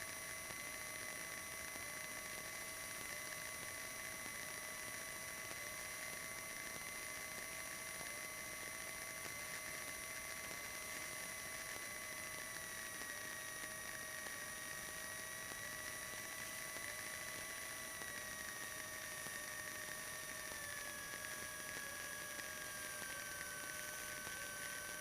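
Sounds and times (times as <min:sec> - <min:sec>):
faint high whine: 0:00.0 - 0:25.0.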